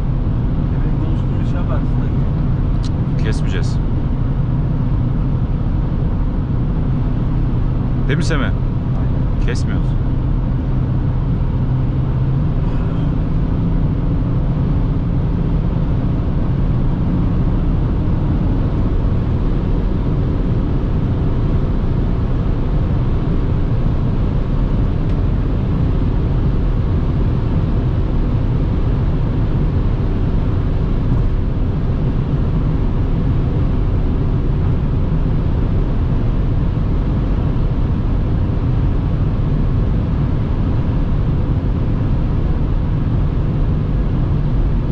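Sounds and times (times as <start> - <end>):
car interior drone: 0.0 - 44.9.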